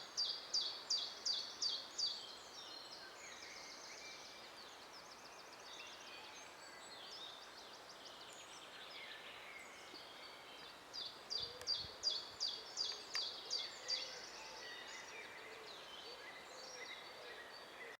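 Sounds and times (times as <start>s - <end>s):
birds singing: 0.0s - 18.0s
steady outdoor hiss: 0.0s - 18.0s.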